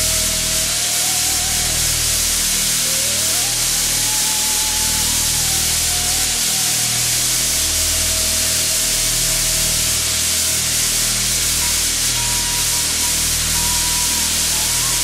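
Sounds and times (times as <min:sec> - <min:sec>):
loud steady hiss: 0:00.0 - 0:15.0
low machine hum: 0:00.0 - 0:15.0.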